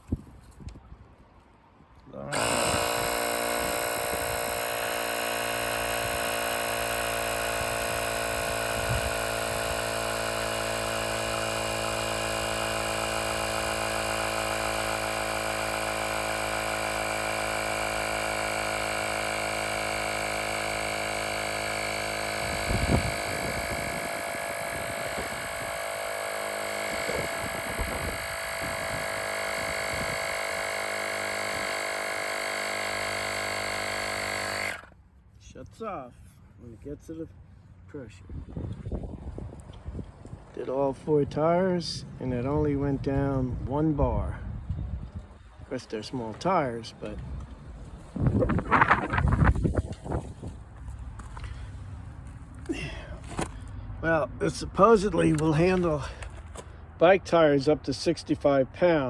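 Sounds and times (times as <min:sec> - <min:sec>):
tire inflator compressor running: 0:02.2 - 0:35.0, 0:42.3 - 0:56.8.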